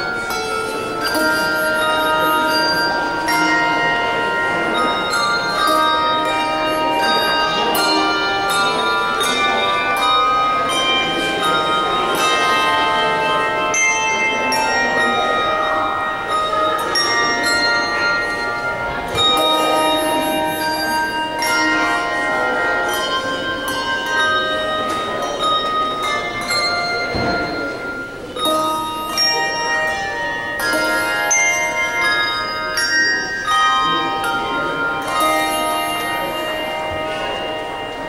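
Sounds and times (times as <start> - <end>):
handbell choir ringing: 0.0 - 38.0.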